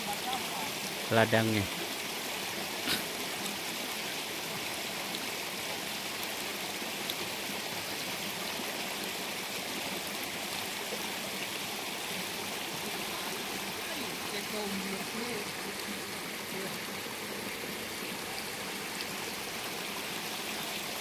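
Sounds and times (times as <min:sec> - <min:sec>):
stream water rushing over rock: 0:00.0 - 0:21.0.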